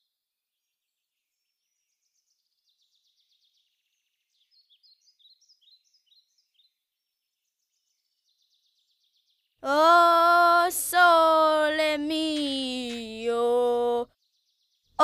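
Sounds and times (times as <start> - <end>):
birds chirping and trilling: 0.5 - 15.0.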